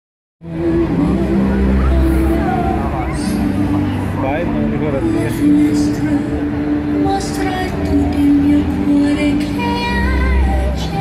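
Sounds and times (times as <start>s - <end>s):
music over loudspeakers: 0.4s - 11.0s.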